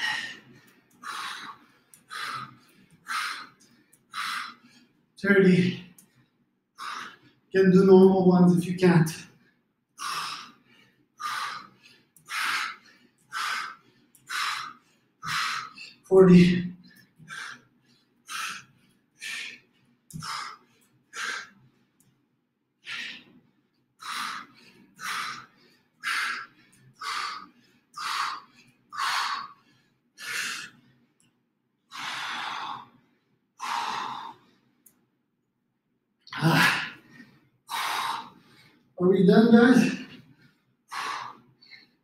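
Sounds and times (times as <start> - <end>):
person breathing hard: 0.0 - 7.5, 9.2 - 16.1, 16.7 - 22.0, 22.8 - 31.2, 31.8 - 35.0, 36.4 - 39.0, 39.7 - 42.0.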